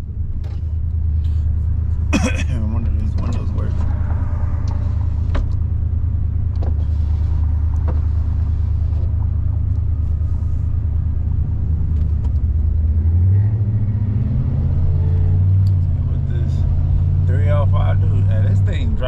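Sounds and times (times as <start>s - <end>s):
car engine droning: 0.0s - 19.0s
road noise: 0.0s - 19.0s.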